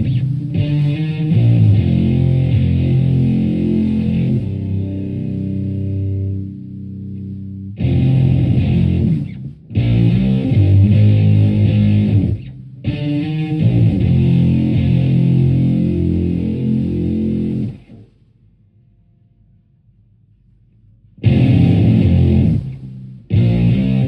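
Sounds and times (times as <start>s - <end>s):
fuzzed electric guitar phrases: 0.0s - 18.2s, 21.2s - 24.0s.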